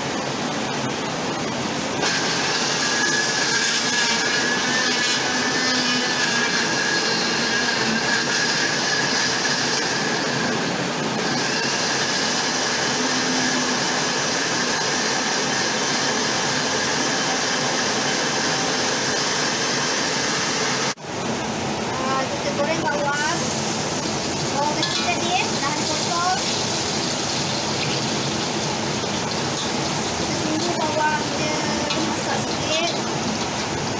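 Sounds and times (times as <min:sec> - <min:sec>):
kitchen blender grinding: 0:02.0 - 0:21.0, 0:23.2 - 0:33.9.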